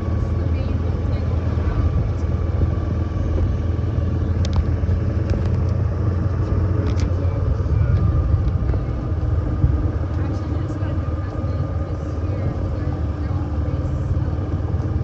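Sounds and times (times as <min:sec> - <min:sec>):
golf cart driving: 0:00.0 - 0:15.0.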